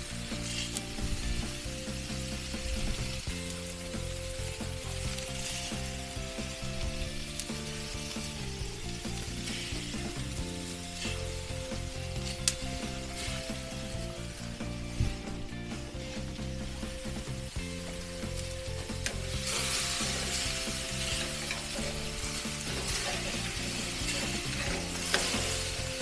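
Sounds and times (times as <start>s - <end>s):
steaks sizzling on a grill: 0.0s - 26.0s.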